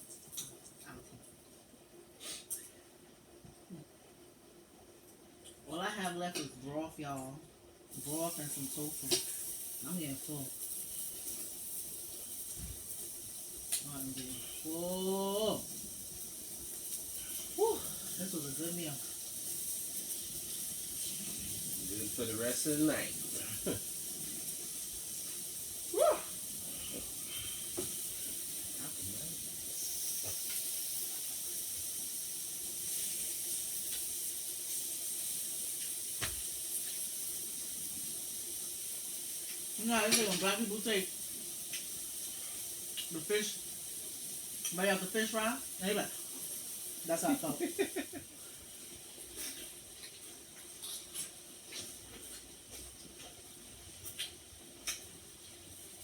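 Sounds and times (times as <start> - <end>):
broth steaming hiss: 0.0 - 0.6, 2.0 - 3.8, 5.7 - 56.0
faint steady hum: 0.0 - 56.0.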